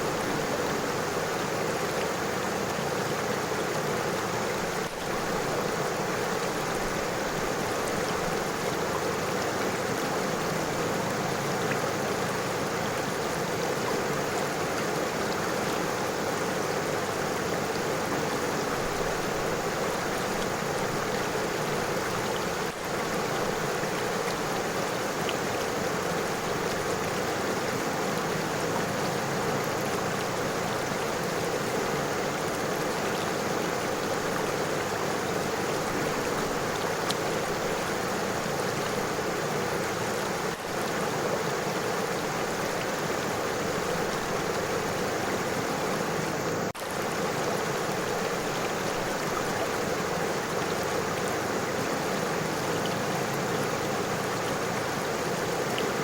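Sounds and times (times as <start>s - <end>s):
river water running over stones: 0.0s - 56.0s.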